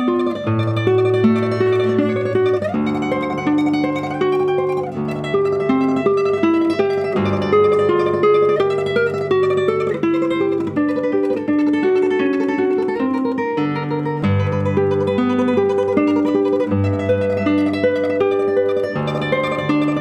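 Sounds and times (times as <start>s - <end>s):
classical guitar tremolo melody: 0.0s - 20.0s.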